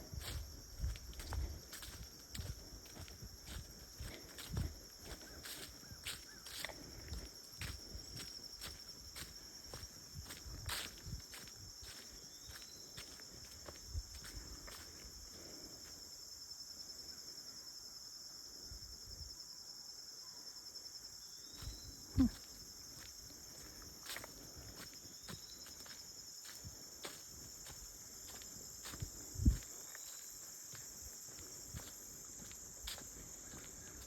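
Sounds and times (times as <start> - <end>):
insects chorus: 0.0 - 34.0.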